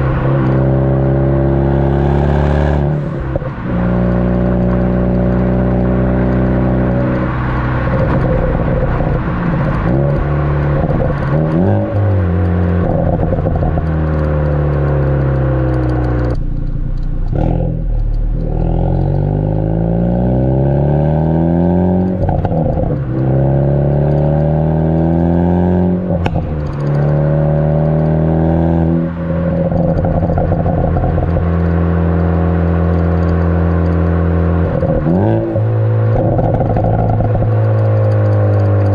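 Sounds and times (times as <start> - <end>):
car exhaust revving: 0.0 - 38.9
exhaust cracks: 0.0 - 38.9.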